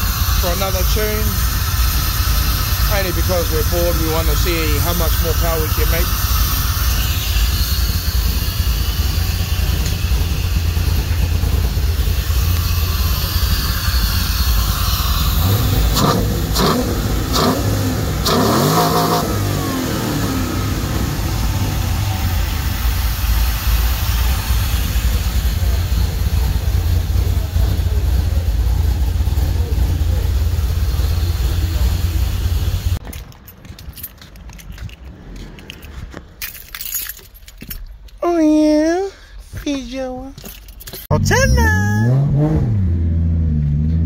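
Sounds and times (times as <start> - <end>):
car engine idling and revving: 0.0 - 38.2, 39.4 - 44.0.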